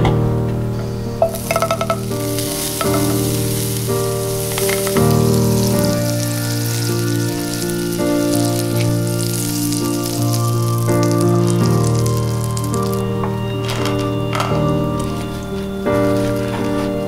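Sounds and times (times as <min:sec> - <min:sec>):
background music: 0:00.0 - 0:17.0
butter sizzling in frying pan: 0:01.2 - 0:17.0.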